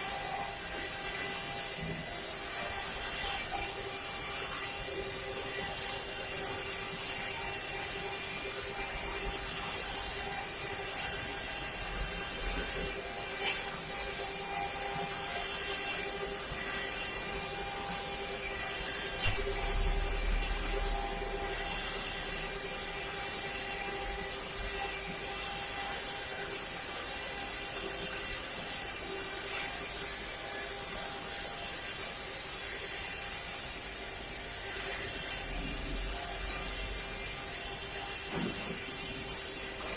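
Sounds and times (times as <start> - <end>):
cnc spindle whine: 0.0 - 39.9.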